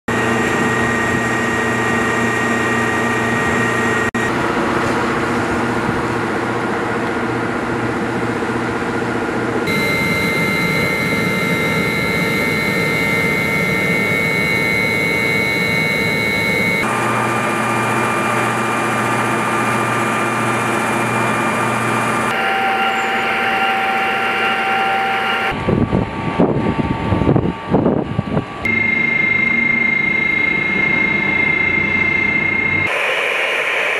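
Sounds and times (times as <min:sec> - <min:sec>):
jet engine turbine whine: 0:00.1 - 0:33.9.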